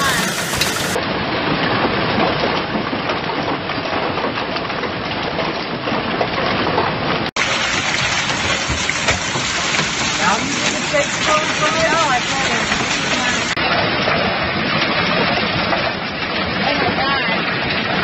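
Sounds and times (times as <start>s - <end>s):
hail and heavy rain: 0.0s - 18.0s.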